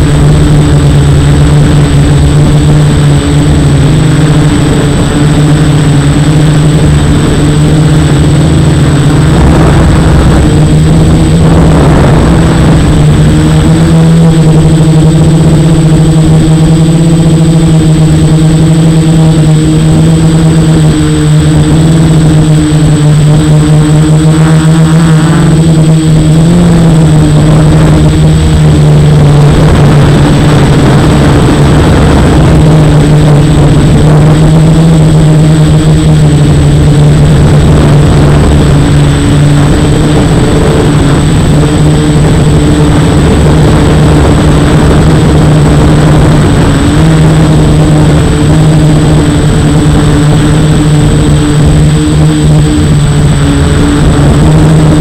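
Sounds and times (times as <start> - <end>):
drone motors buzzing: 0.0 - 55.0
high-pitched whine: 0.0 - 55.0.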